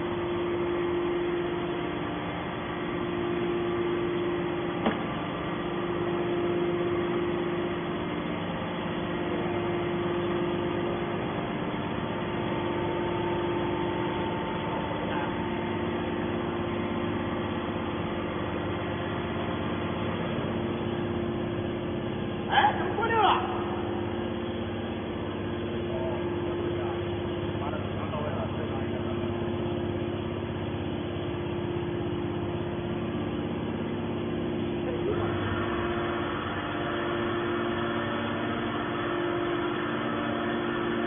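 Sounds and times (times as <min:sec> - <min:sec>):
baler mechanical hum: 0:00.0 - 0:41.0.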